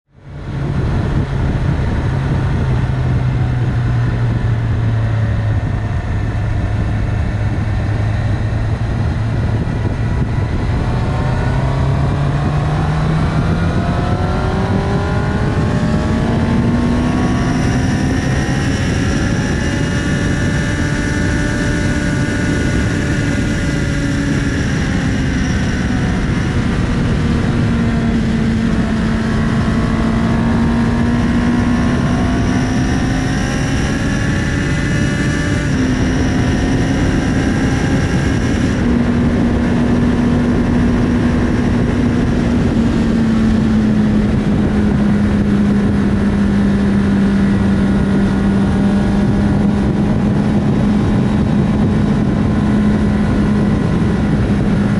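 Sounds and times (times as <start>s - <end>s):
wind and road noise: 0.0s - 54.9s
motorcycle engine revving: 0.1s - 54.9s.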